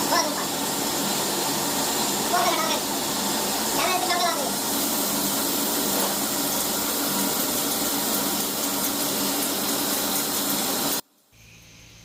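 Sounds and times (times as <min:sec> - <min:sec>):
chicken sizzling in hot oil: 0:00.0 - 0:11.8.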